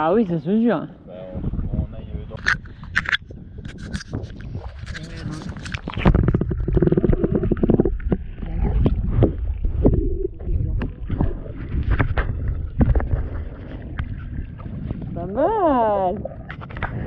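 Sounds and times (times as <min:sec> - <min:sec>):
muffled underwater rumble: 0:01.0 - 0:17.0
sea water sloshing: 0:02.4 - 0:17.0.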